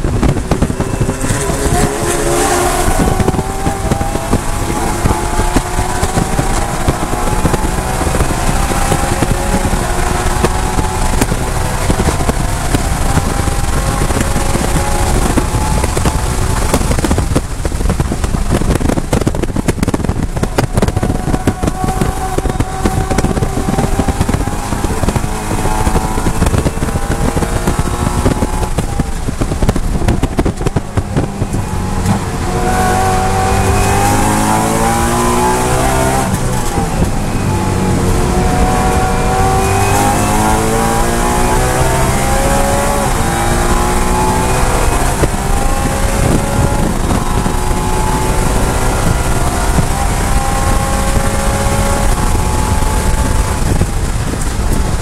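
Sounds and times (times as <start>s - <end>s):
car engine at full throttle: 0.0s - 55.0s
hard braking with downshifts: 0.0s - 55.0s.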